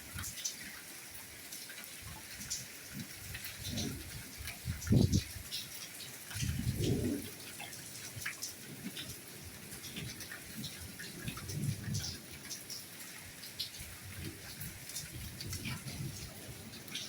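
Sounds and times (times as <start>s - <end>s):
soft rain hiss: 0.0s - 17.0s.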